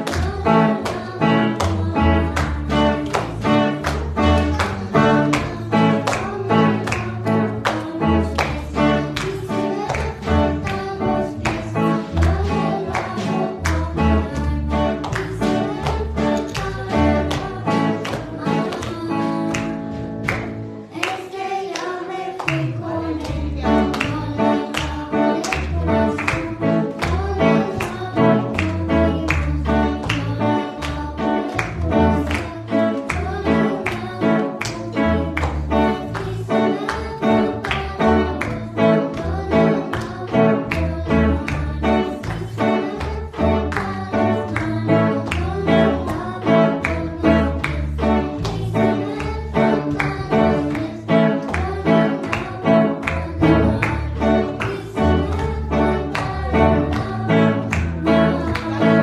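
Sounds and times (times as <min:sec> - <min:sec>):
girl singing a hymn: 0:00.0 - 0:20.1, 0:20.8 - 0:59.0
band with guitar and bass: 0:00.0 - 0:21.6, 0:22.5 - 0:59.0.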